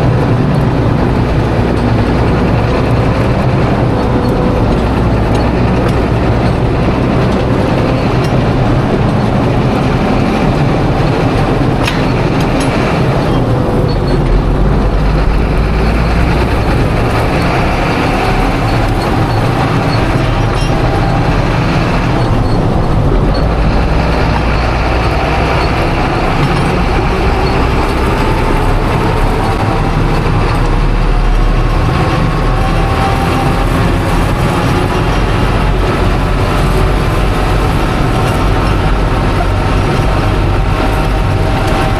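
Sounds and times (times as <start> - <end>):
diesel farm machine running: 0.0 - 41.9.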